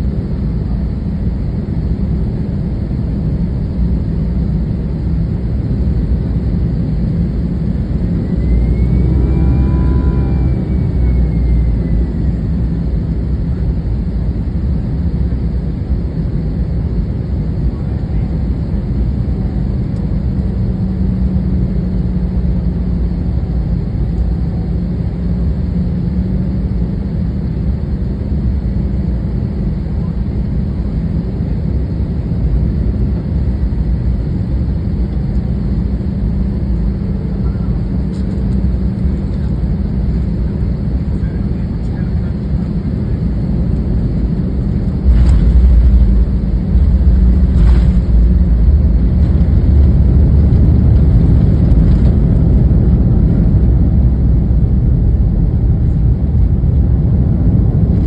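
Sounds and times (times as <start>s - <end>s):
airliner cabin engine rumble: 0.0s - 58.0s
low hum: 0.0s - 58.0s.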